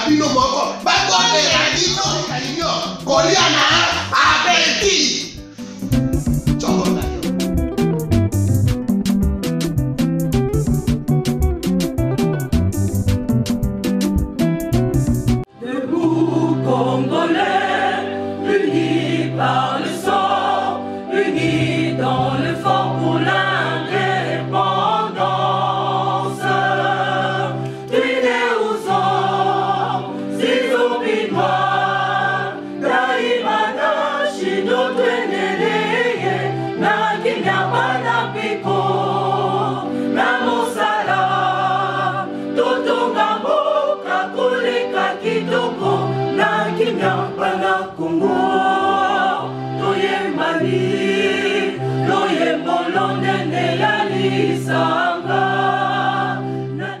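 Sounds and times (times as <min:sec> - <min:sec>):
choir singing in harmony: 0:00.0 - 0:05.9, 0:06.6 - 0:07.2, 0:15.4 - 0:57.0.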